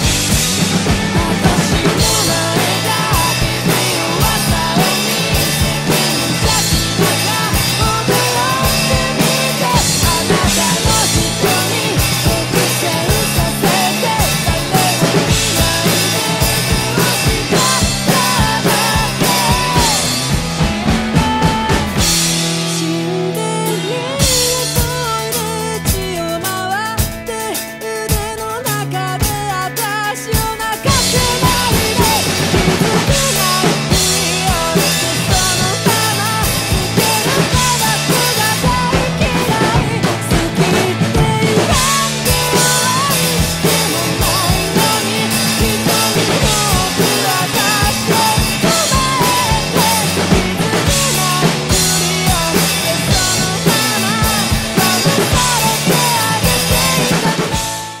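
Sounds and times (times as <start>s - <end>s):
acoustic drum kit: 0.0s - 58.0s
person singing: 0.0s - 58.0s
pop-rock band recording: 0.0s - 58.0s.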